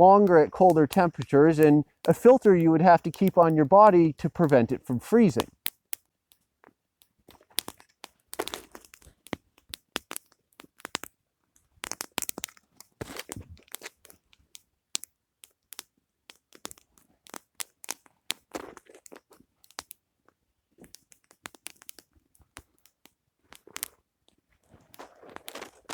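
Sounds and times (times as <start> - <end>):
crunching and crackling: 0.0 - 6.4, 7.1 - 25.9.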